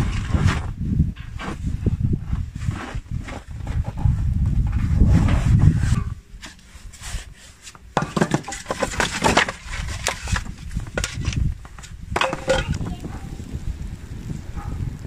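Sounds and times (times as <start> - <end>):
wood scraping: 0.0 - 13.2.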